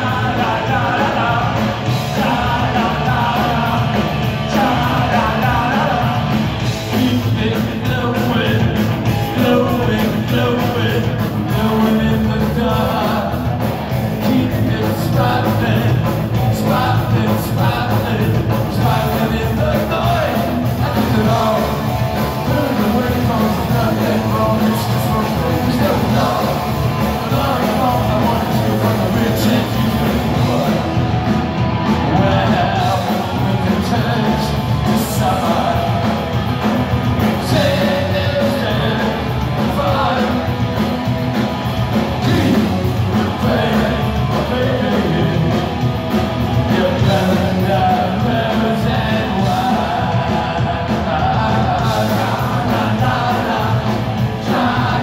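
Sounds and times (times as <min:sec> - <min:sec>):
male lead singer: 0:00.0 - 0:55.0
punk rock band playing live: 0:00.0 - 0:55.0.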